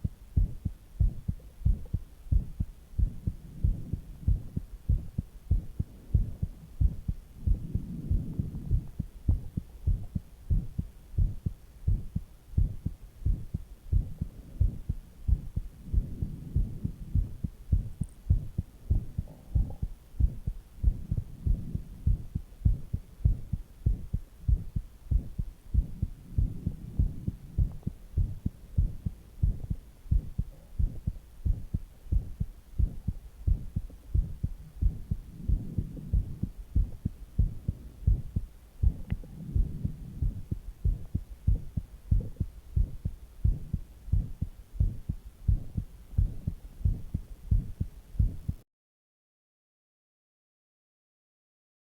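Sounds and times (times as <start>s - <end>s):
heartbeat thumps: 0.0s - 48.6s.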